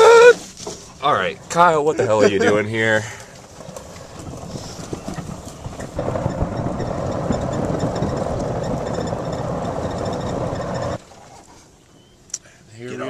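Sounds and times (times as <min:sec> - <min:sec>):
golf cart rumbling: 0:00.0 - 0:12.3.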